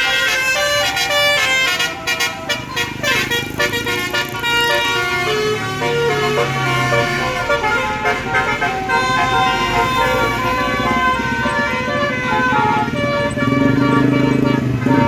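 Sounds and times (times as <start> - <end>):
bus horn playing a melody: 0.0 - 15.0.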